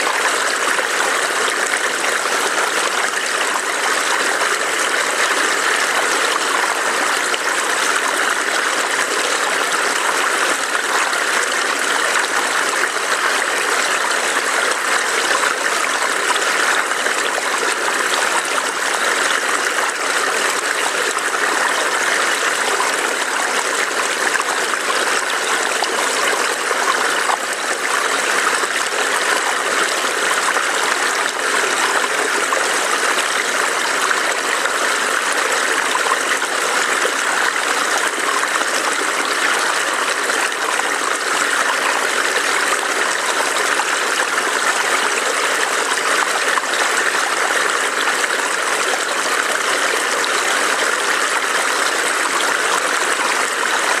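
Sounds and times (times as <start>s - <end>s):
stream burbling over rocks: 0.0s - 54.0s.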